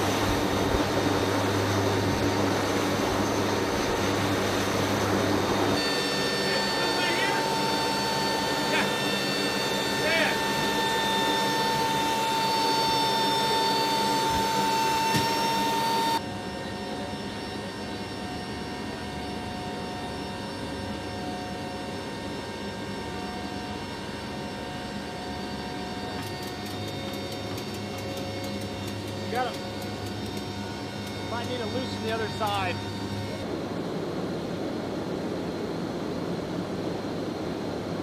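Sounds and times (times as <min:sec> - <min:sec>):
turboprop engines droning: 0:00.0 - 0:38.0.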